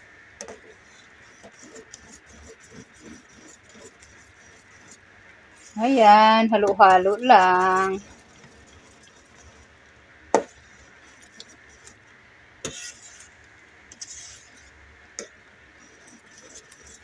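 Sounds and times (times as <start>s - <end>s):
metal ladle stirring in a pot: 0.4s - 9.8s, 10.4s - 12.0s, 12.6s - 14.7s, 15.8s - 17.0s.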